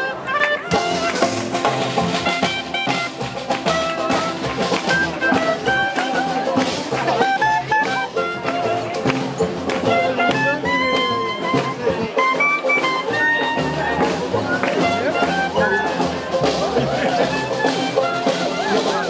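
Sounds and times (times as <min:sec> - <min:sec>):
clarinet melody: 0:00.0 - 0:19.0
jazz band playing swing: 0:00.0 - 0:19.0.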